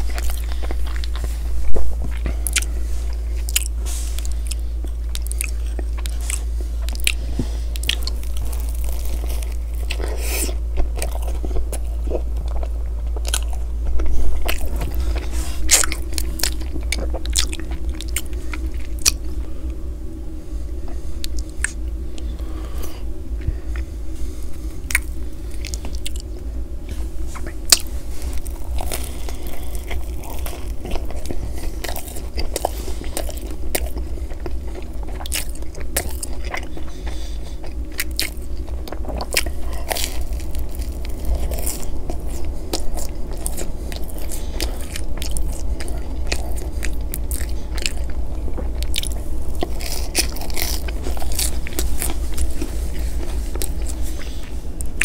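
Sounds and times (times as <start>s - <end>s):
chewing pizza crust: 0.0s - 55.0s
steady low hum: 0.0s - 55.0s.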